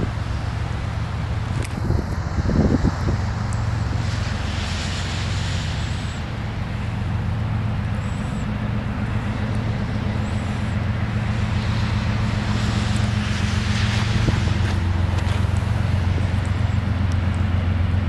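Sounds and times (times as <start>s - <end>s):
locomotive engine hum: 0.0s - 18.0s.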